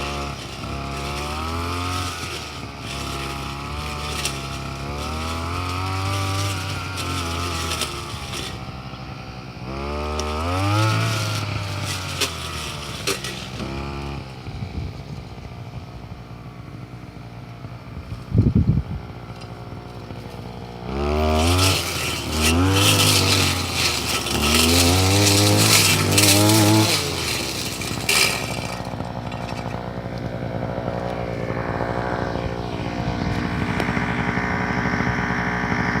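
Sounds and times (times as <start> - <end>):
brush cutter engine revving: 0.0 - 36.0.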